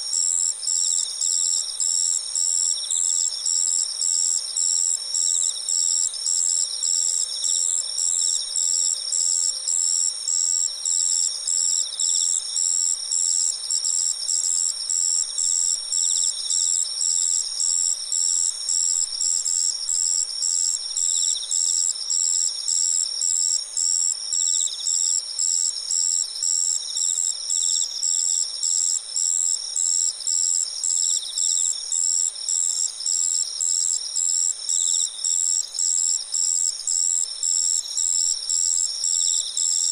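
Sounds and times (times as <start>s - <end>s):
cricket chirping: 0.0s - 39.9s
crickets trilling: 0.2s - 39.9s.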